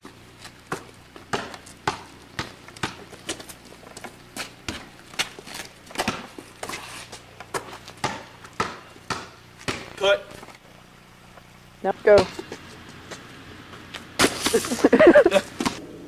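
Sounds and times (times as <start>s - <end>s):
basketball bouncing on asphalt: 0.0s - 10.6s, 11.3s - 14.6s.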